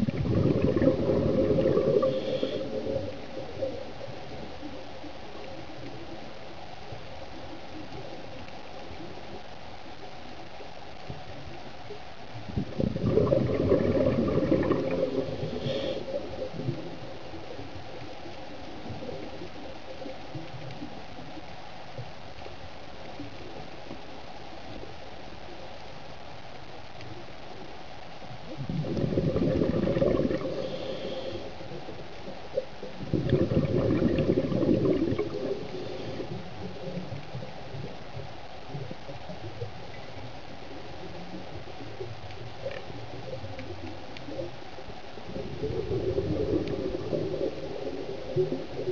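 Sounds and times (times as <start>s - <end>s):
scuba bubbles gurgling: 0.0s - 9.4s, 12.3s - 22.1s, 27.6s - 48.9s
steady low hiss: 0.0s - 48.9s.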